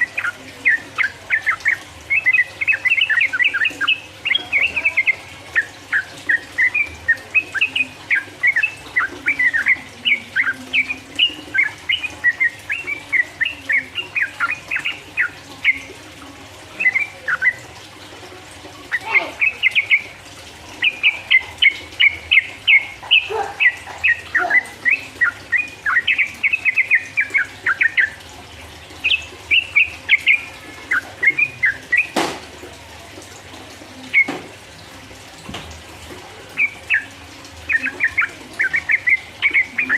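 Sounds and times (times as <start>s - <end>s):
bird singing fast chattering notes: 0.0s - 17.8s, 18.8s - 32.3s, 34.0s - 34.5s, 36.5s - 39.9s.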